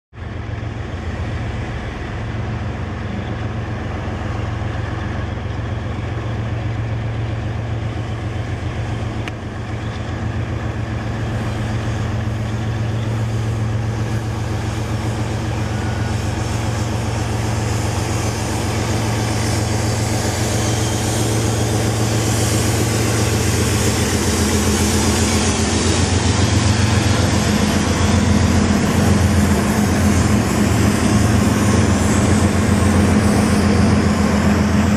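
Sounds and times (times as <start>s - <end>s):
wheels rushing on rail: 0.1s - 34.9s
locomotive engines droning: 0.2s - 34.9s.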